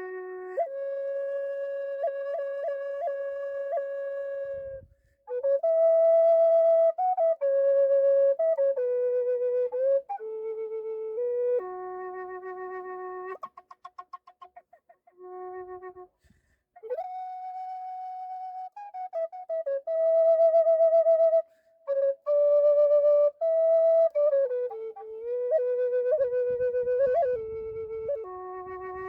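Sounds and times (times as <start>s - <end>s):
flute playing slow melody: 0.0s - 13.7s, 15.2s - 29.0s.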